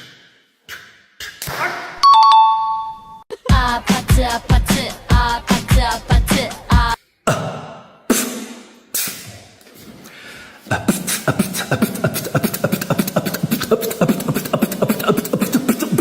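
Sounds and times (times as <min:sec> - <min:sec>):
beatboxing mouth percussion: 0:00.0 - 0:02.0, 0:03.4 - 0:09.6, 0:10.7 - 0:16.0.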